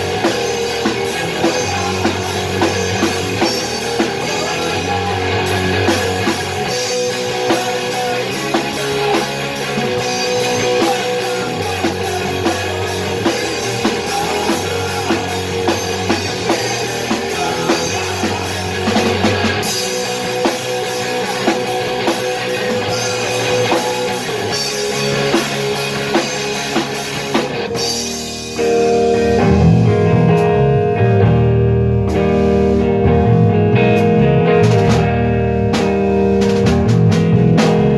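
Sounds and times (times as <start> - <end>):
guitar and bass part: 0.0 - 37.9
rock band playing: 0.0 - 37.9.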